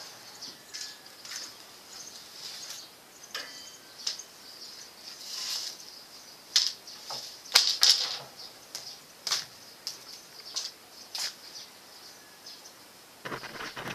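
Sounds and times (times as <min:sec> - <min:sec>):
birds chirping: 0:00.0 - 0:13.9
insects droning: 0:00.0 - 0:13.9.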